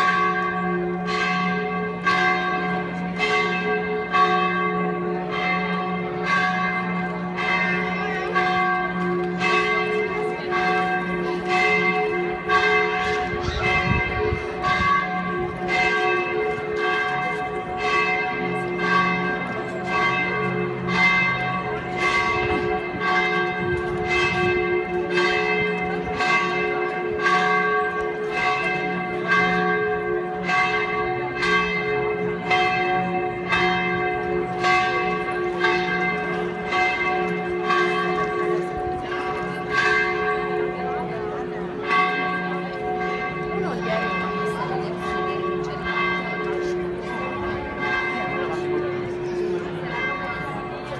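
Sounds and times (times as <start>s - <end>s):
church bells ringing: 0.0s - 50.9s.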